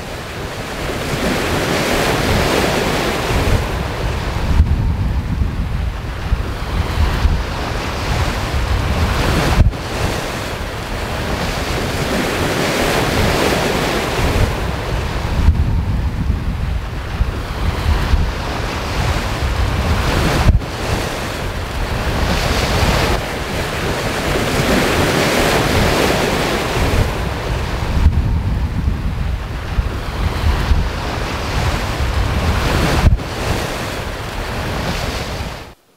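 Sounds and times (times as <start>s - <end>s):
wind buffeting microphone: 0.0s - 35.8s
sea water rushing along hull: 0.0s - 35.9s.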